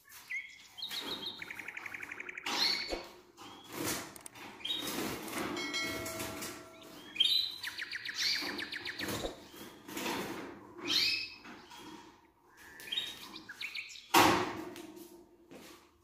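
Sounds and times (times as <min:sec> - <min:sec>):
canaries chirping: 0:00.0 - 0:14.2.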